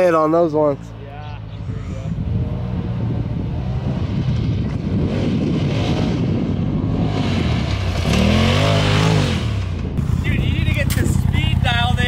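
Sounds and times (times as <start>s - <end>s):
wind buffeting microphone: 1.3s - 12.0s
vehicle engine under throttle: 1.7s - 12.0s.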